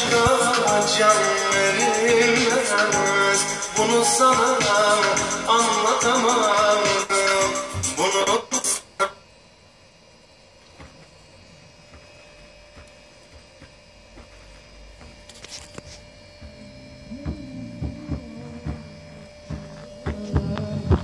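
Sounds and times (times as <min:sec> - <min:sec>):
lower buzz: 0:00.0 - 0:08.0, 0:08.8 - 0:21.0
speaker electrical hum: 0:00.0 - 0:21.0.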